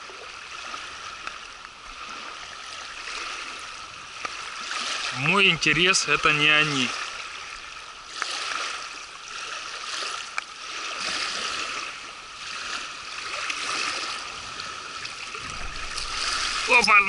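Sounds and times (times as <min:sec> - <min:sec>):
waves lapping on pebbly shore: 0:00.0 - 0:17.0.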